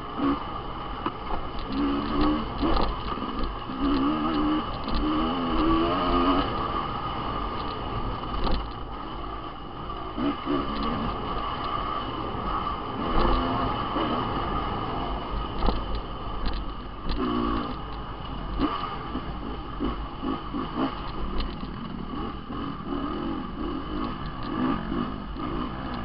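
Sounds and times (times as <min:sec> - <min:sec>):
dirt bike engine revving: 0:00.0 - 0:16.4, 0:17.0 - 0:26.0.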